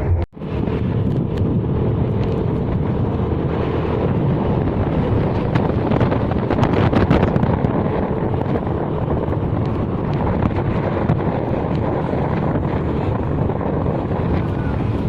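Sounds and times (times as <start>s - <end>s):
vehicle running rumble: 0.0s - 15.0s
wind buffeting microphone: 0.0s - 15.0s.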